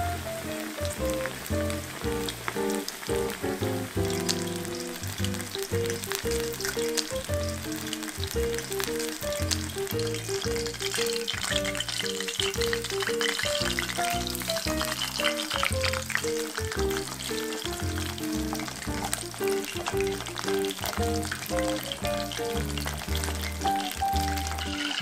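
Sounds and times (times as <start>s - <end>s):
hot oil bubbling and crackling: 0.0s - 25.0s
soft background music: 0.0s - 25.0s.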